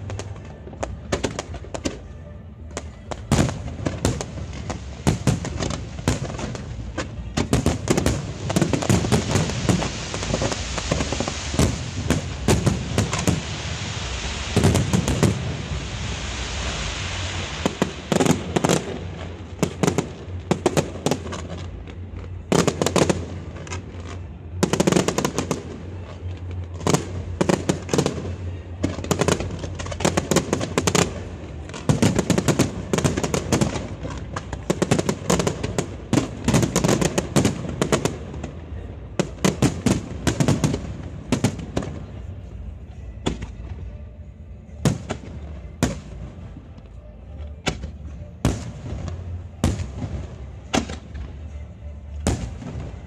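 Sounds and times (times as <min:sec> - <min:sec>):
fireworks bangs: 0:00.0 - 0:42.6, 0:47.6 - 0:53.0.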